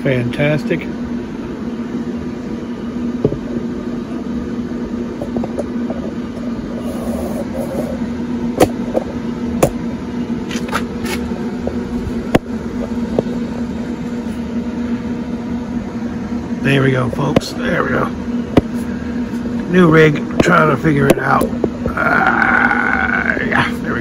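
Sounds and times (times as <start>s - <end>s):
smoker fan and motor hum: 0.0s - 24.0s.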